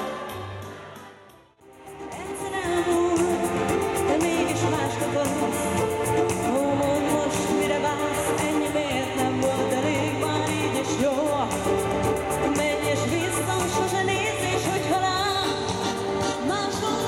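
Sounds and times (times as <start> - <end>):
woman singing pop dance song: 1.8 - 17.0.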